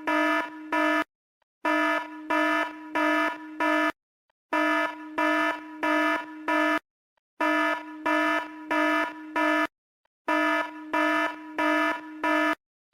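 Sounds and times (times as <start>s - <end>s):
buzzing electronic alarm beeps: 0.0s - 6.8s, 7.4s - 9.7s, 10.3s - 12.6s.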